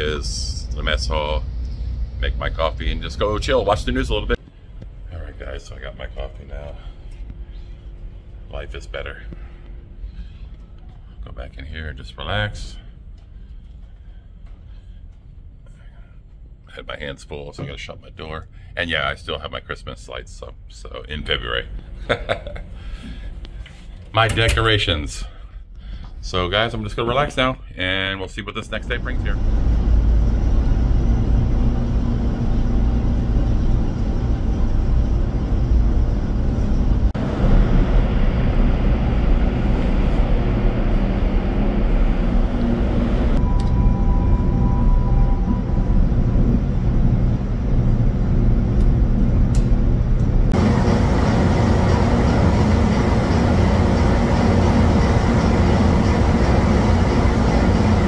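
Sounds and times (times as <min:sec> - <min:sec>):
ship engine room machinery drone: 0:00.0 - 0:16.7, 0:28.1 - 0:58.0.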